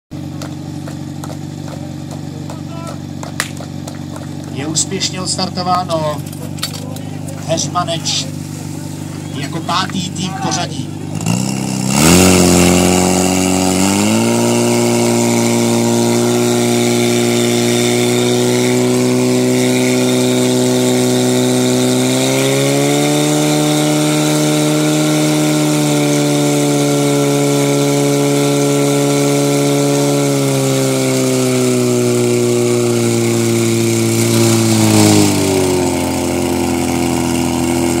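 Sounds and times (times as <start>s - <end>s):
pump engine running hard: 0.1s - 38.0s.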